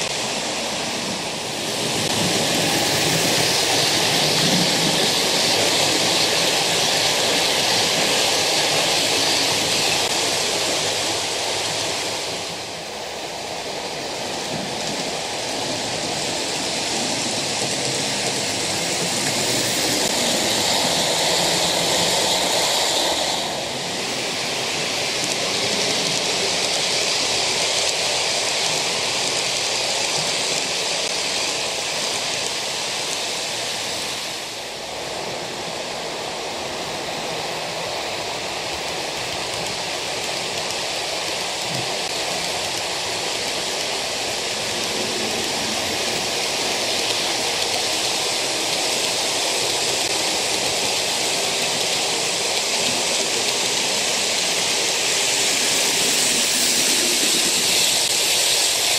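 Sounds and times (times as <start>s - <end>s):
model train wheels hissing on rails: 0.0s - 58.9s.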